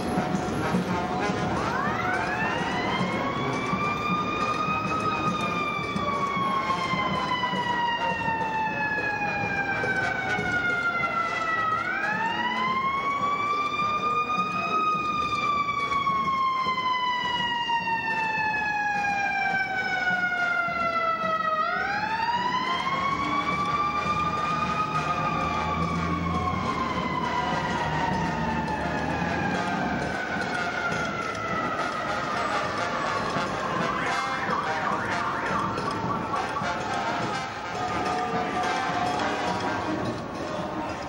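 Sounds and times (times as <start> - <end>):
background noise: 0.0 - 41.0
siren wailing: 0.0 - 41.0.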